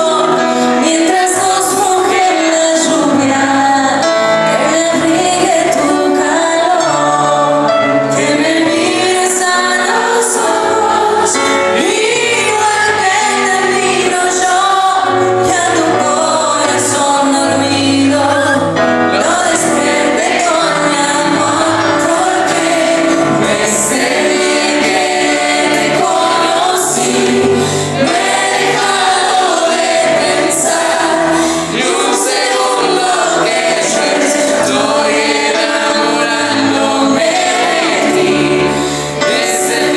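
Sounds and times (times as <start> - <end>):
pop song with group vocals: 0.0 - 39.9.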